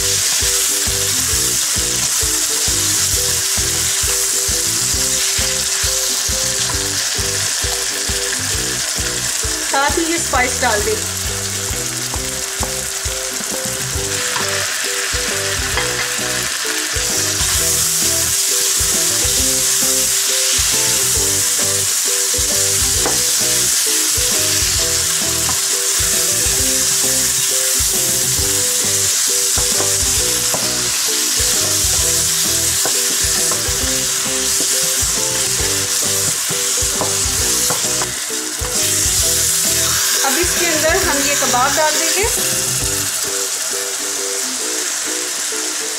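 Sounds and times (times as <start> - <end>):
masala sizzling in oil: 0.0 - 45.9.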